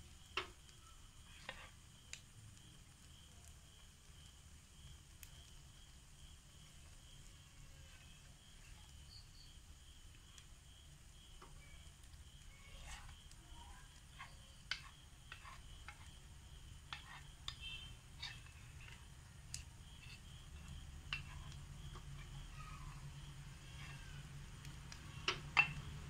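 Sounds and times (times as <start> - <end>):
hot oil crackling and popping: 0.0 - 26.0.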